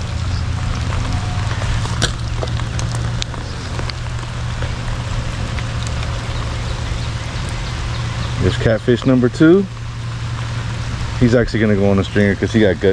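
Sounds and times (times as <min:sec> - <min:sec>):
steady low hum: 0:00.0 - 0:12.9
steady rain falling: 0:00.0 - 0:12.9.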